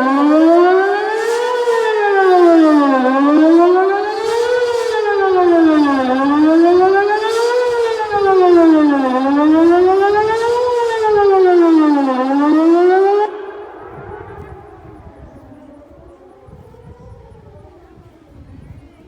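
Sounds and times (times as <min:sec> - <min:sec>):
warning siren wailing: 0:00.0 - 0:19.0.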